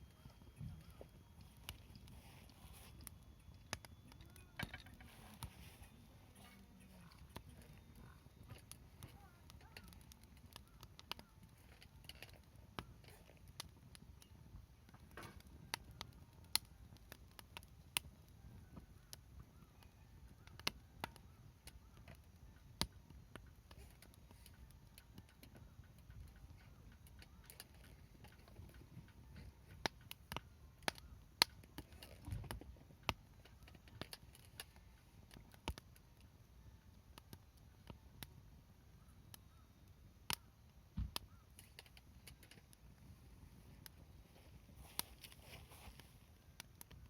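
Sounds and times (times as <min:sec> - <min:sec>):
campfire crackling and popping: 0:00.0 - 0:47.0
low rumble of flames: 0:00.0 - 0:47.0.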